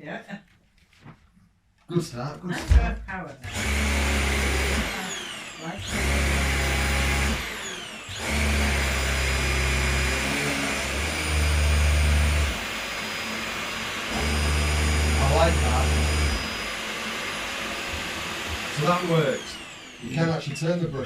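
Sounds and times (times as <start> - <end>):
vacuum cleaner motor whine: 3.4 - 21.0.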